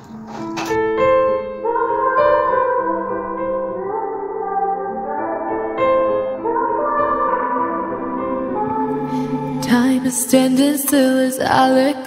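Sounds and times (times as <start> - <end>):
slow held chords music: 0.0 - 12.0.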